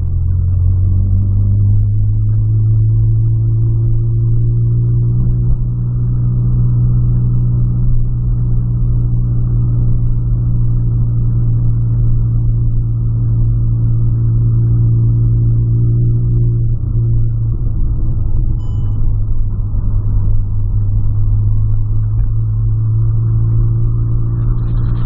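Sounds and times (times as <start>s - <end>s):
car engine drone: 0.0s - 25.0s
road noise: 4.9s - 25.0s.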